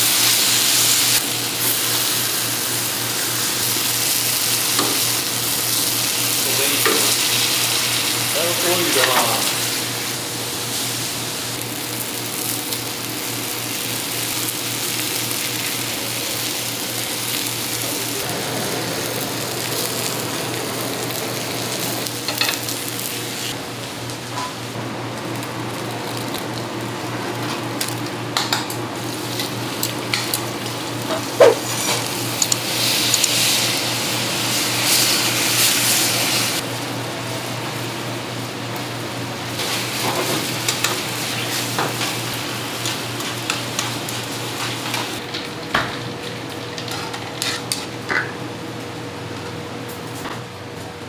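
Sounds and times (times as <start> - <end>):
onions and meat sizzling in a pan: 0.0 - 45.3.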